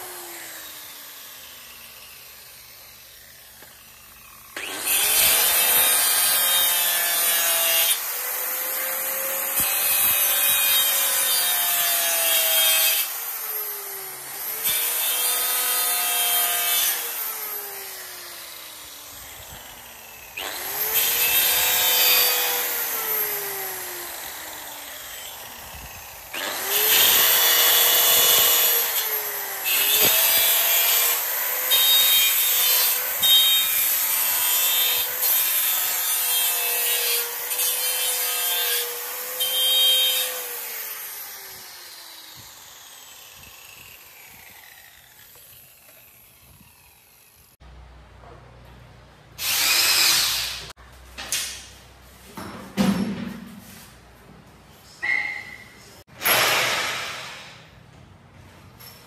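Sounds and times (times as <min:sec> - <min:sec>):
circular saw cutting wood: 0:00.0 - 0:47.7, 0:49.4 - 0:50.8.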